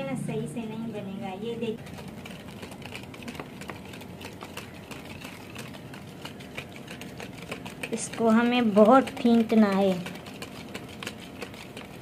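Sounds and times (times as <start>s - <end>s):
wire whisk clicking in plastic bowl: 2.2s - 12.0s.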